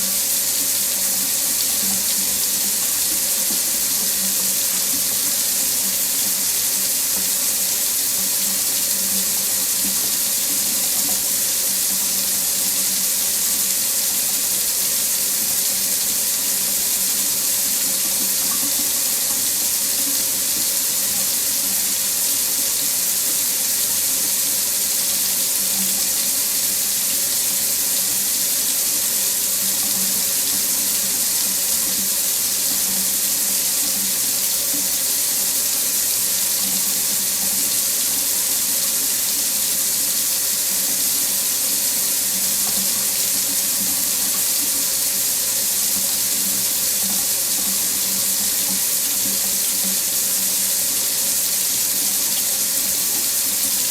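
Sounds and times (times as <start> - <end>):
faucet running into sink: 0.0 - 53.9.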